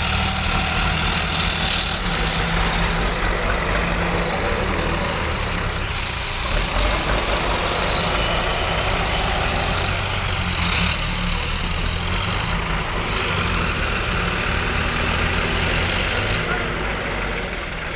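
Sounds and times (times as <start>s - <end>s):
heavy diesel engine running: 0.0s - 17.9s.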